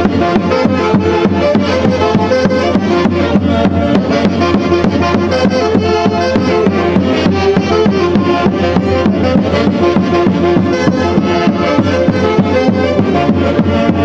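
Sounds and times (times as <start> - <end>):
quick drum beat: 0.0 - 14.0.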